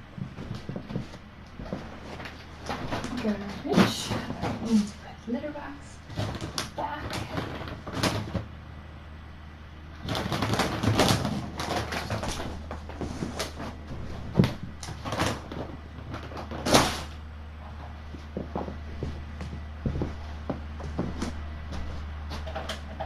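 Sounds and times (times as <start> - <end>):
objects rustling and clattering: 0.0 - 8.6, 10.0 - 23.0
steady low hum: 0.0 - 23.0.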